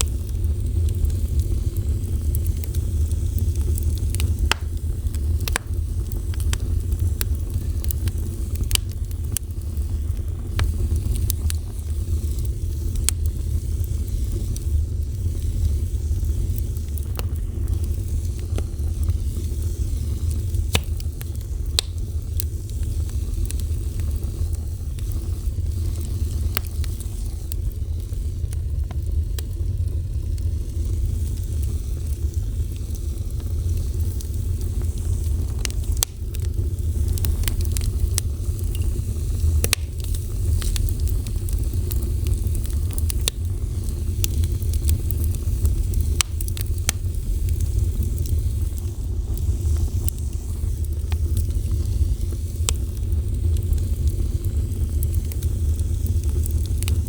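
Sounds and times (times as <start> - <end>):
fire burning with crackles and pops: 0.0 - 57.0.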